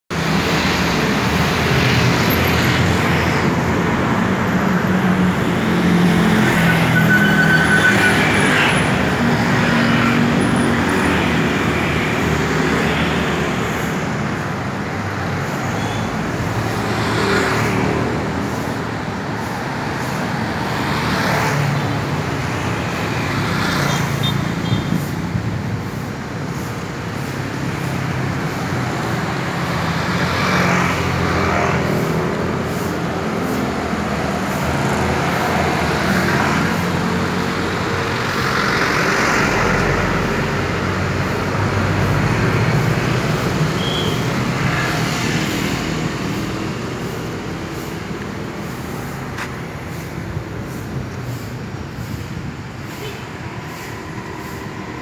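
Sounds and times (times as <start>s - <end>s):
road traffic: 0.1s - 55.0s
vehicles passing close by: 0.1s - 55.0s.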